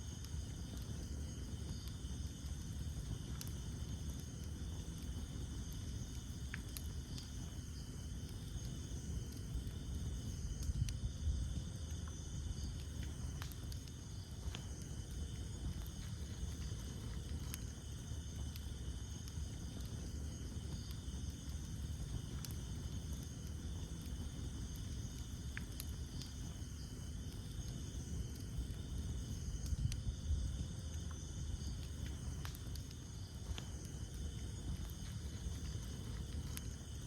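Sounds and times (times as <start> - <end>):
burning wood crackling and popping: 0.0 - 37.0
campfire flames rumbling: 0.0 - 37.0
insects chirring: 0.0 - 37.0.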